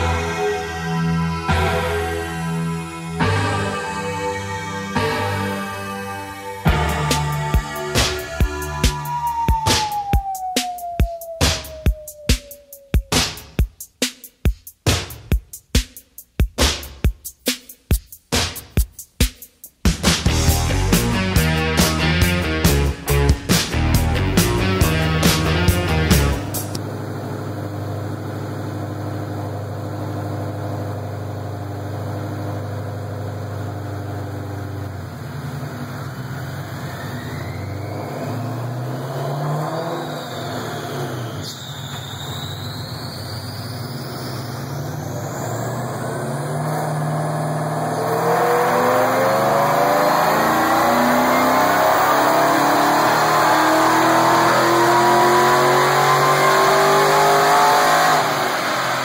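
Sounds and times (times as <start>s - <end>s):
supercharged car engine revving: 0.0s - 13.5s, 20.2s - 59.0s.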